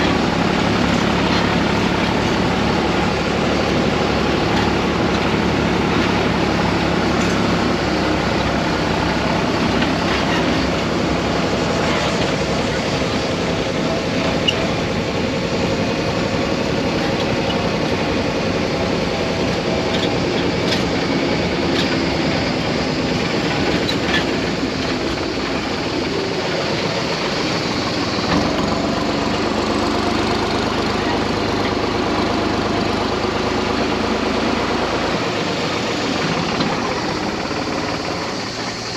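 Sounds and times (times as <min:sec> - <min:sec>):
trailer knocks and rattles: 0:00.0 - 0:33.0
tractor diesel engine running: 0:00.0 - 0:38.9.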